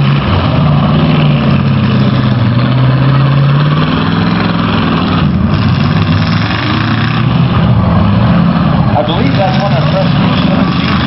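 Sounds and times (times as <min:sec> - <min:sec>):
car engines revving loudly: 0:00.0 - 0:11.0.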